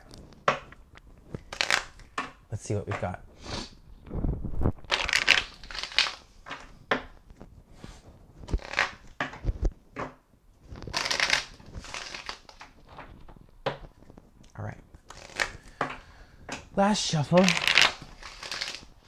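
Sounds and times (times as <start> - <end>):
cards being shuffled: 0.0 - 2.4, 4.5 - 19.0.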